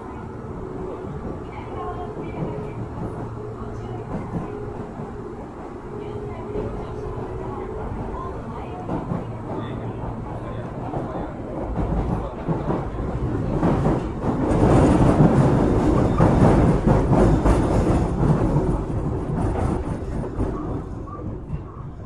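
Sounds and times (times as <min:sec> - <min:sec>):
subway train wheels rolling on rails: 0:00.0 - 0:22.0.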